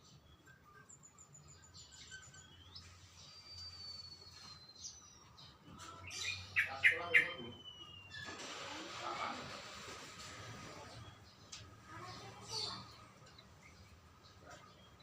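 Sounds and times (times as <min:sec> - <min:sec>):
faint songbird song: 0:00.0 - 0:08.4, 0:10.6 - 0:15.0.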